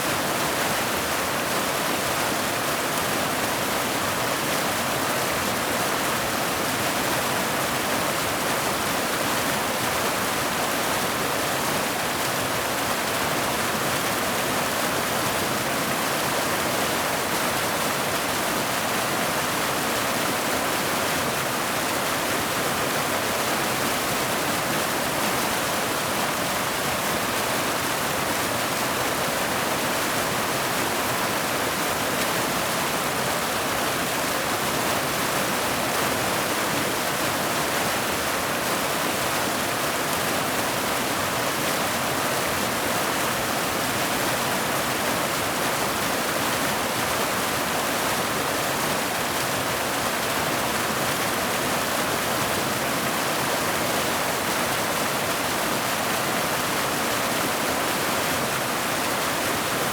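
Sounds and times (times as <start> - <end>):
waterfall rushing over boulders: 0.0 - 59.9.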